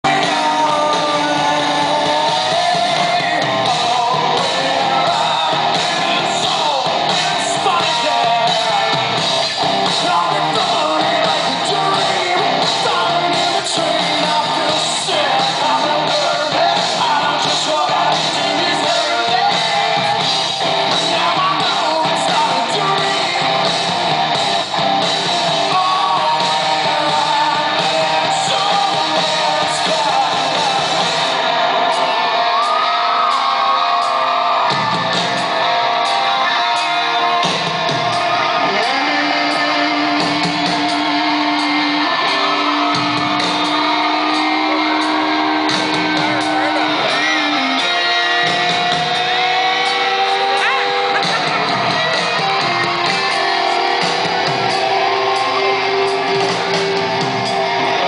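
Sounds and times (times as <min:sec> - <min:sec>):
man singing lead vocal: 0:00.0 - 0:34.7, 0:38.1 - 0:56.8
drums: 0:00.0 - 0:58.0
live rock band with electric guitars: 0:00.0 - 0:58.0.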